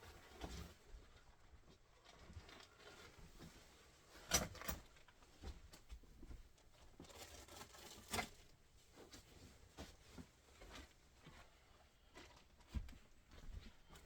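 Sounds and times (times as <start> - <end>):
soft rustling: 0.0 - 14.0.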